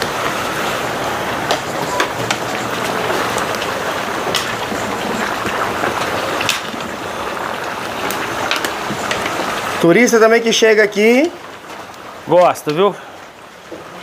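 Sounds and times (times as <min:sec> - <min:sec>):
meat sizzling in lard: 0:00.0 - 0:12.8.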